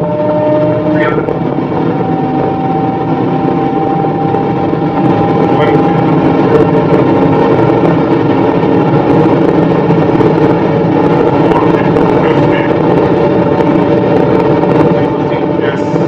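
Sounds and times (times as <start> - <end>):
car engine at high speed: 0.0 - 16.0
road noise: 0.0 - 16.0
wind noise: 0.0 - 16.0.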